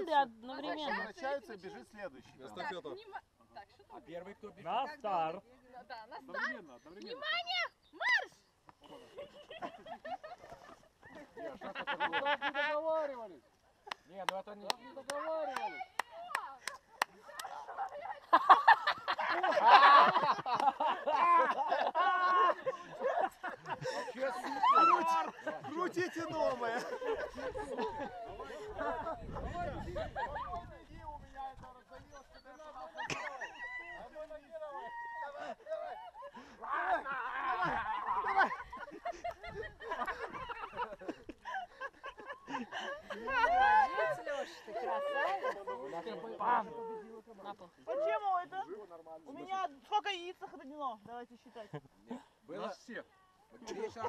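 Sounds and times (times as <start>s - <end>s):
people laughing and calling out: 6.0s - 14.1s, 14.8s - 54.0s.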